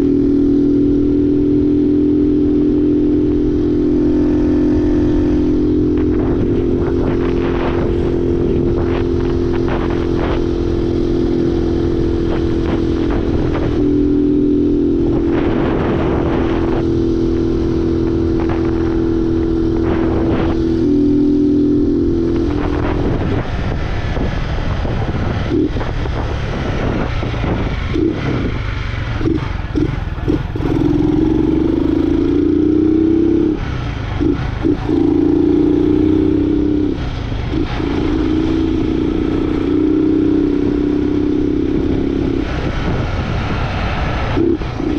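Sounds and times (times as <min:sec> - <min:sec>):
motorcycle engine droning: 0:00.0 - 0:44.9
wind noise: 0:00.0 - 0:44.9.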